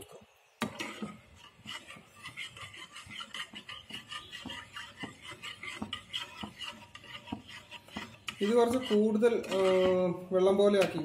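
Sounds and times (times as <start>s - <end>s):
spatula scraping metal pan: 0.6s - 11.0s.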